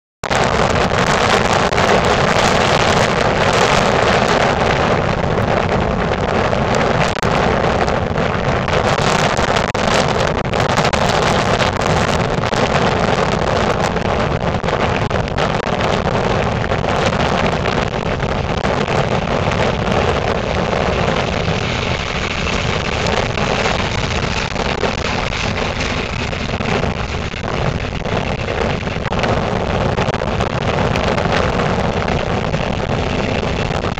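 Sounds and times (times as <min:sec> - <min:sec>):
wind buffeting microphone: 0:00.2 - 0:33.9.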